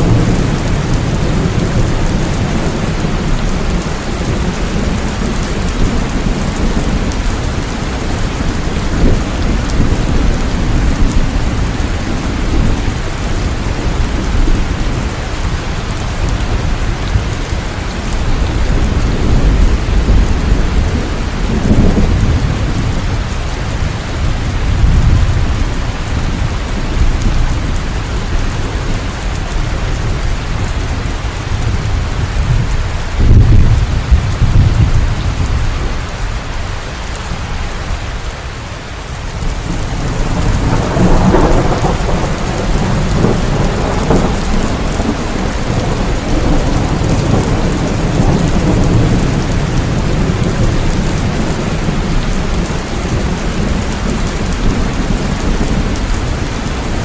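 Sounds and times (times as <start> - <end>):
heavy rain: 0.0 - 57.0
thunder rumbling: 0.0 - 57.0.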